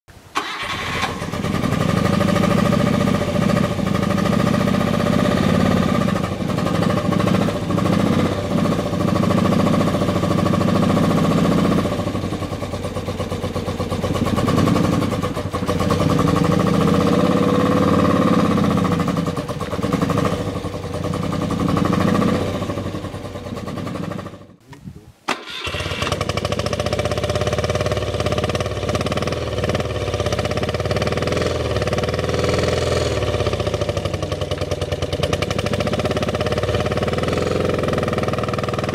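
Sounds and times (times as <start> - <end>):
motorcycle engine revving: 0.4 - 24.6, 25.3 - 38.9.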